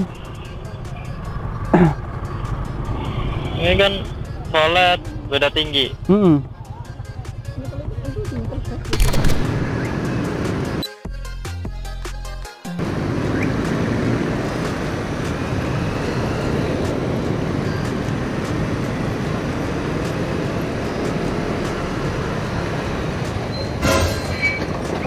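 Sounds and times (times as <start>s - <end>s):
wind and road noise: 0.0s - 5.9s, 8.4s - 10.8s, 12.8s - 25.0s
surrounding traffic: 0.0s - 25.0s.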